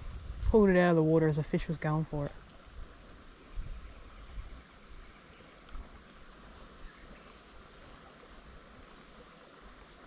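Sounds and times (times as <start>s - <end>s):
insects calling: 0.0s - 10.0s
birds calling softly: 1.5s - 10.0s.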